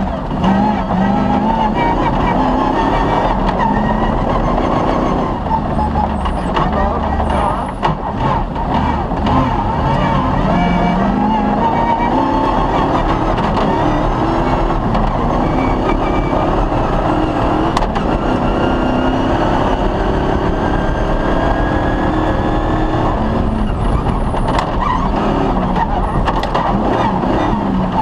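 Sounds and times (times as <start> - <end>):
loud continuous rumble: 0.0 - 28.0
rally car engine revving: 0.0 - 28.0.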